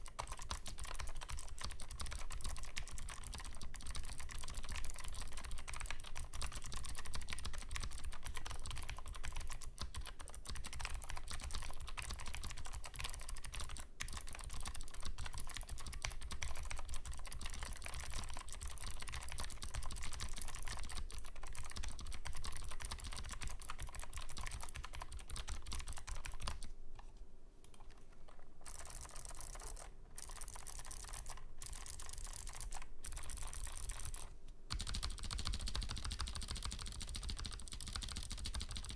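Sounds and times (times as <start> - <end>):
clicky keyboard typing: 0.0 - 38.9.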